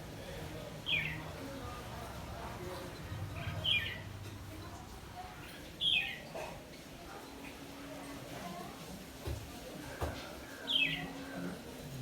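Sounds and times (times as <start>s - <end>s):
low background murmur: 0.0s - 12.0s.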